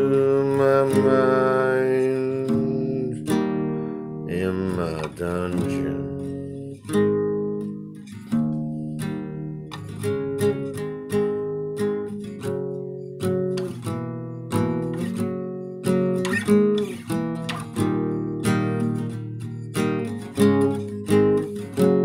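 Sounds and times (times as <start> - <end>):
strummed acoustic guitar chords: 0.0 - 22.0.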